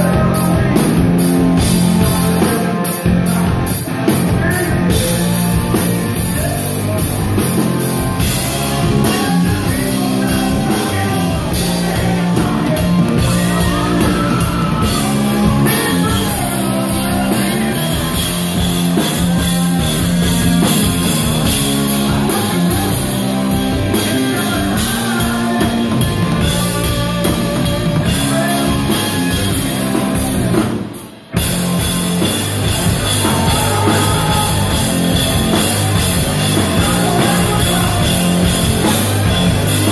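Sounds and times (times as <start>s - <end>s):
person singing: 0.0s - 7.7s, 8.4s - 30.7s, 32.7s - 39.9s
rock band playing: 0.0s - 39.9s.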